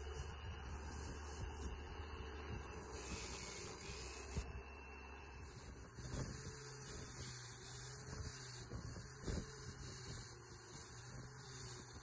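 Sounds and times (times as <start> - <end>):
angle grinder whine: 0.0 - 12.0.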